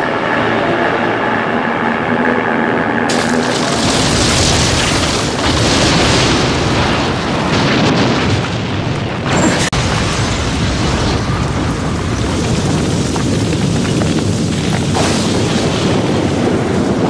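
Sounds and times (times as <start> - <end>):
explosive energy blast rumble: 3.1 - 17.0.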